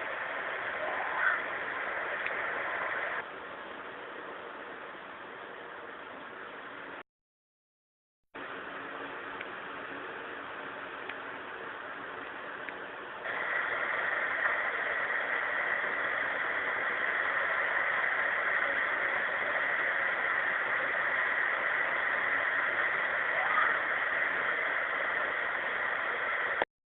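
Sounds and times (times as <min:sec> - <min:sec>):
steady background hiss: 0:00.0 - 0:07.0, 0:08.4 - 0:26.6.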